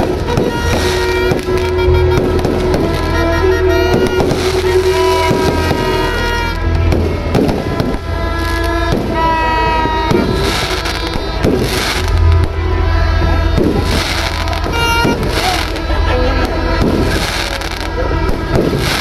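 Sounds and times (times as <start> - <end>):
fireworks bangs and crackling: 0.0 - 19.0
music with steady low beat: 0.0 - 19.0.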